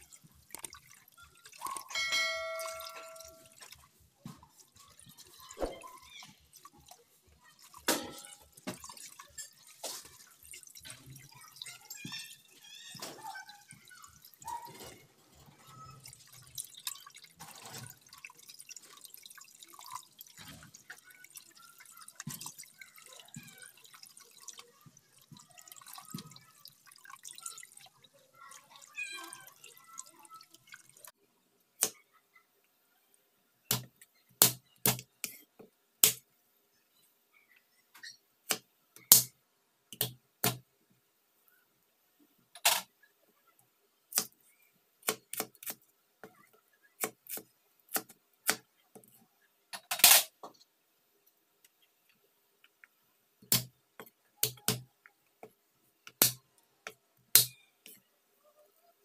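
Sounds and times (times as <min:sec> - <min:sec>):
faint running water: 0:00.0 - 0:59.0.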